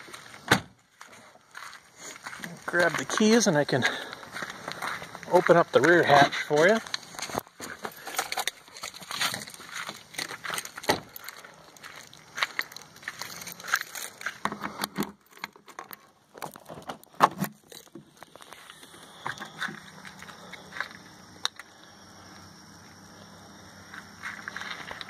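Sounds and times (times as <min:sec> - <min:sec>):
footsteps: 0:00.0 - 0:15.0, 0:16.4 - 0:21.2, 0:23.8 - 0:25.0
faint steady hum: 0:00.0 - 0:25.0.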